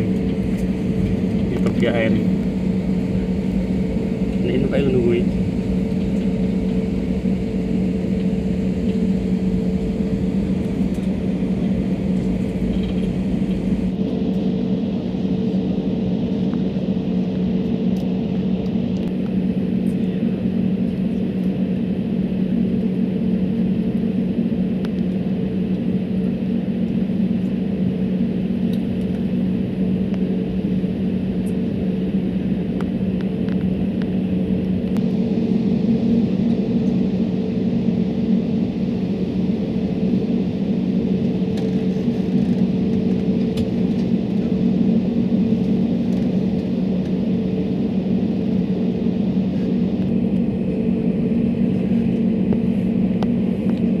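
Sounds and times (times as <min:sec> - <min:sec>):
jet airliner cabin drone: 0:00.0 - 0:54.0.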